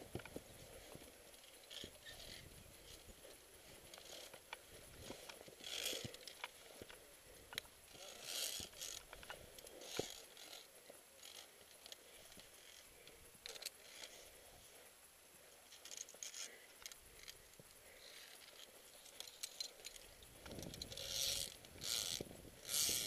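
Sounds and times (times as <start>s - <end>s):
climbing gear clicks: 0.0s - 23.0s.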